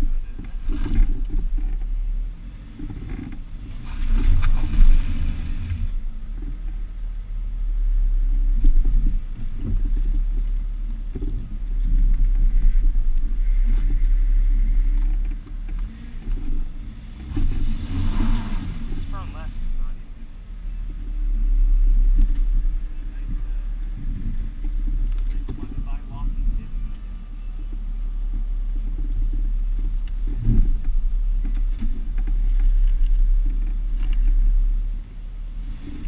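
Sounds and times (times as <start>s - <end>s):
off-road vehicle engine rumble: 0.0s - 36.0s.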